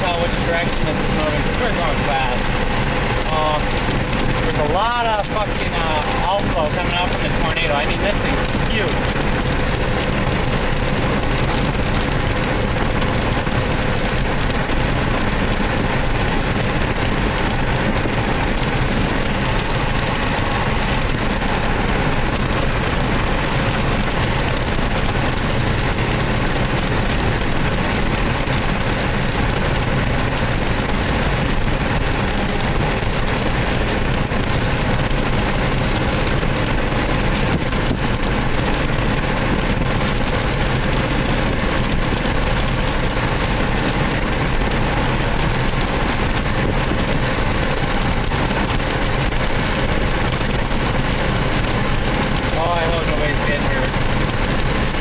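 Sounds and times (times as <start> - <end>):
rain on car: 0.0 - 55.0
road and engine noise: 0.0 - 55.0.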